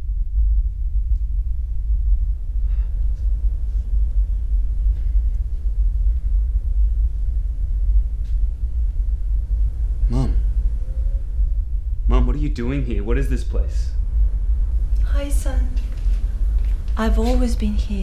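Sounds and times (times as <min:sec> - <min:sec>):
deep low rumble: 0:00.0 - 0:18.0.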